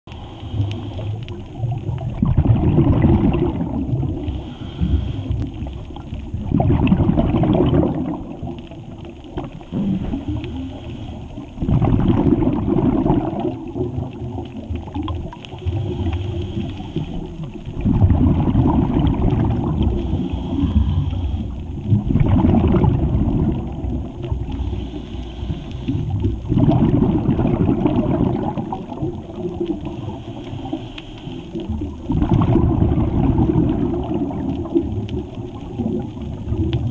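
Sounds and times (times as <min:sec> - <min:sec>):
low water rumble: 0:00.0 - 0:36.9
regulator exhale bubbling: 0:00.1 - 0:36.9.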